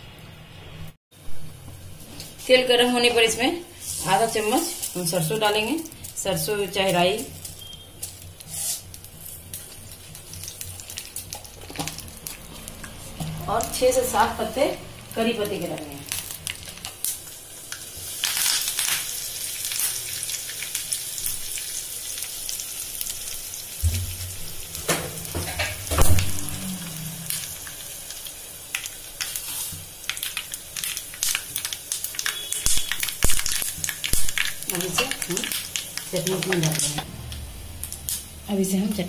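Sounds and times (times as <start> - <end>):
sizzling and popping in hot oil: 1.4 - 39.0.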